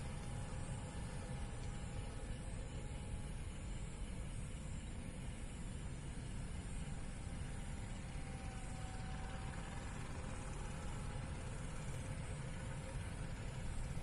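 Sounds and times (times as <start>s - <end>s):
faint thin jet whine: 0.0s - 14.0s
jet engines low rumble: 0.0s - 14.0s.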